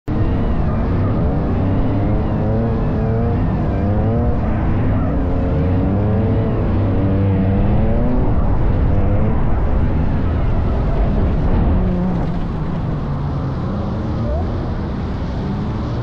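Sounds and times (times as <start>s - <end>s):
car engine revving: 0.1s - 16.0s.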